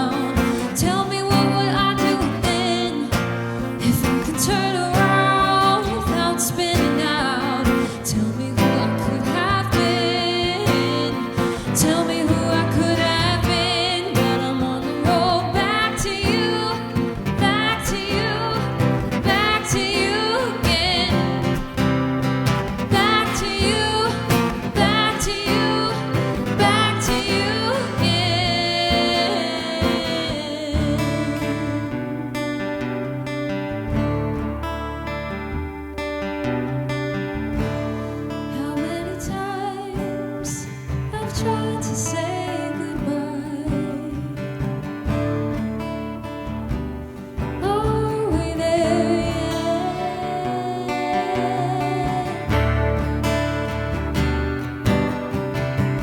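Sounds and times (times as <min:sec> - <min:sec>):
acoustic guitar plucked and strummed: 0:00.0 - 0:56.0.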